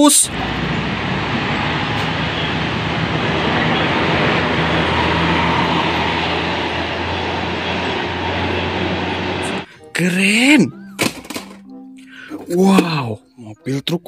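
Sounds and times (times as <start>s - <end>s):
bus diesel engine droning: 0.0s - 13.1s
road and traffic noise: 0.0s - 13.2s.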